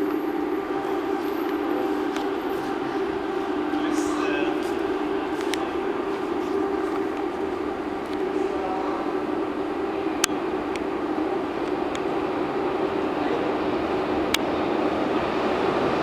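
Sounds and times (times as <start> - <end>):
underground train rushing: 0.0 - 16.0.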